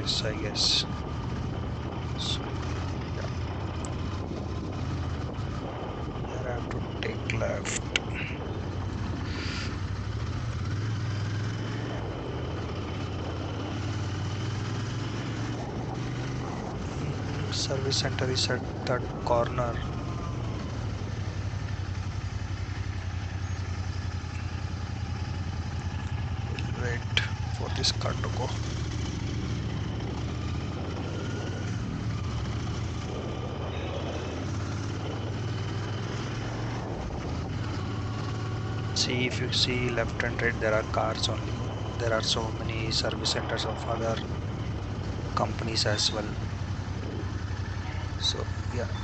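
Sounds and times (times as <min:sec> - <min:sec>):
motorcycle engine running: 0:00.0 - 0:49.0
road and wind noise: 0:00.0 - 0:49.0.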